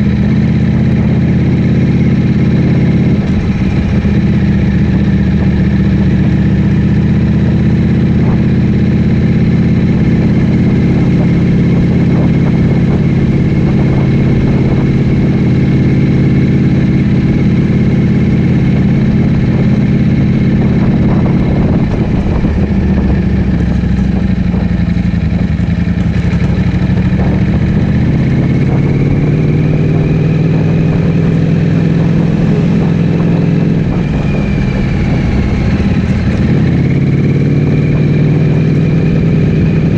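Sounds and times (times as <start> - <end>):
motorcycle engine revving loud: 0.0 - 39.9.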